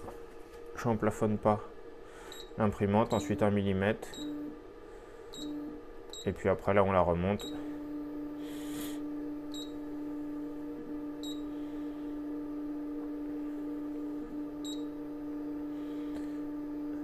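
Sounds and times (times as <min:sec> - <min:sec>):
stepper motor humming: 0:00.0 - 0:17.0.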